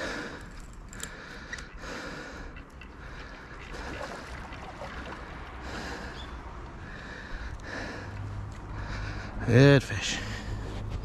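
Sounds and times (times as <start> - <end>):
man breathing hard: 0.0 - 11.0.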